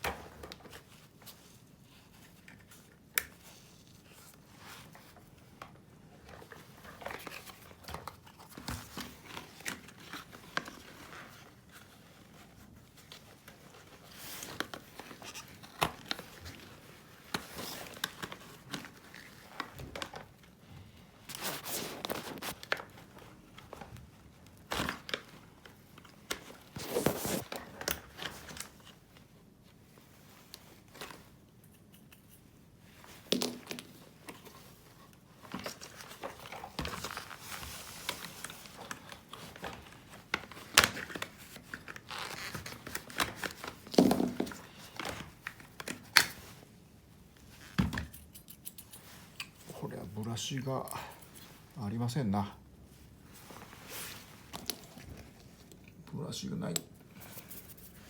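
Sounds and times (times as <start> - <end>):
rustling and crinkling: 0.0 - 58.0.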